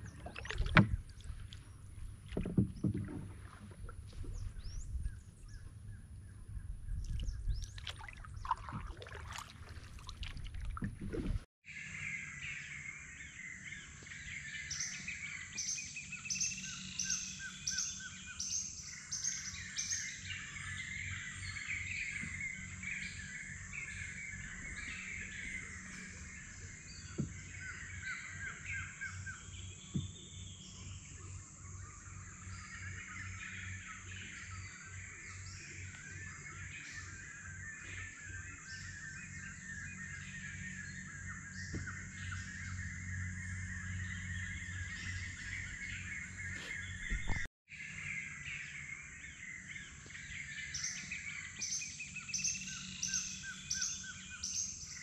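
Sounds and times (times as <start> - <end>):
birds calling: 0.0 - 55.0.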